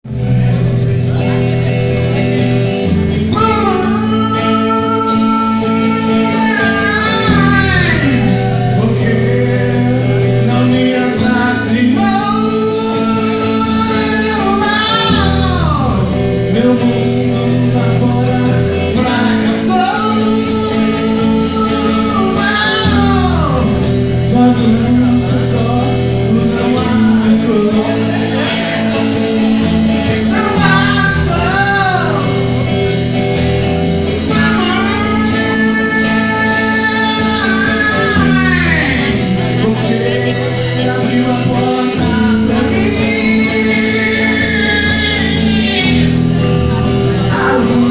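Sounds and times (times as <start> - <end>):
bending guitar melody notes: 0.0 - 47.9
live rock band playing slow song: 0.0 - 47.9.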